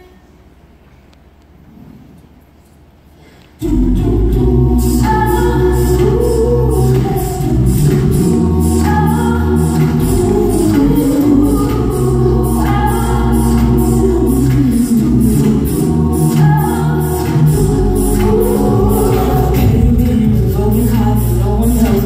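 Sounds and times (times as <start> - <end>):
a cappella group singing: 3.6 - 22.0.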